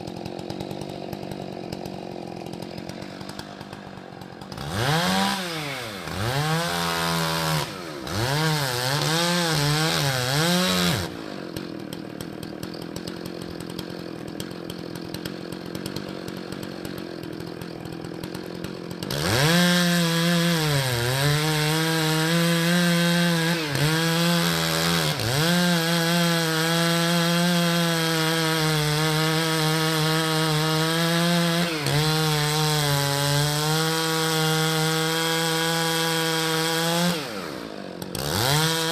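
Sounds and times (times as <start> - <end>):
chainsaw cutting wood: 0.0 - 38.9
chainsaw revving and idling: 0.0 - 38.9.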